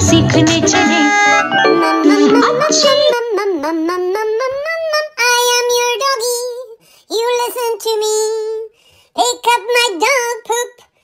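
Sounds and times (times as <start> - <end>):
high childlike voice singing: 0.0 - 11.0.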